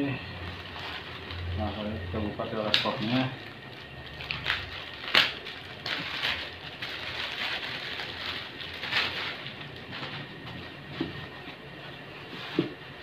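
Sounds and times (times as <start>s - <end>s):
plastic packaging crinkling: 0.3s - 11.4s.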